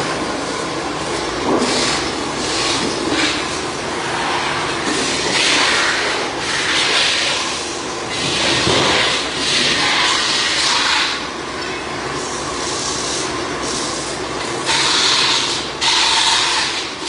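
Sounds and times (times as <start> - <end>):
workshop machinery running: 0.0 - 17.0.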